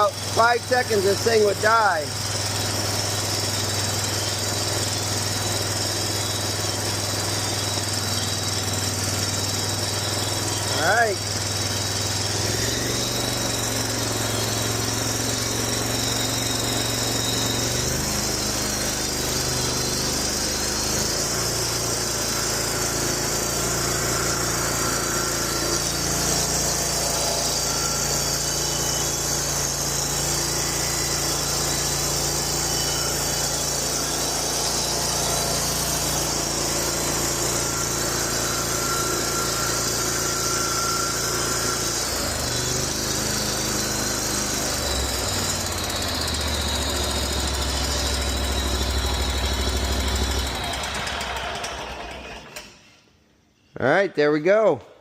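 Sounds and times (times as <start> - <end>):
mower engine running: 0.0 - 52.7.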